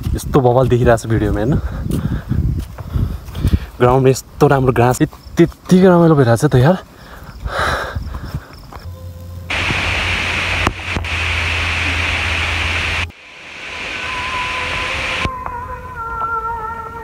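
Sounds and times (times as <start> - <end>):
wind hissing through pine trees: 0.0 - 17.0.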